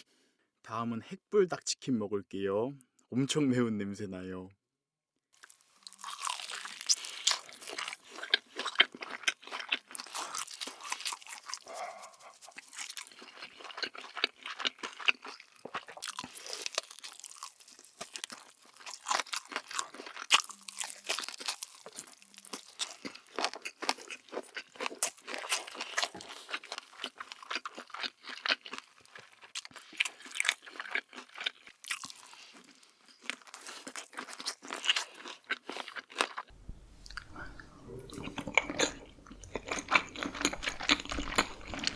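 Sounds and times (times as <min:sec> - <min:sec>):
crunching and chewing crispy chicken: 0:05.4 - 0:36.6, 0:38.2 - 0:41.9.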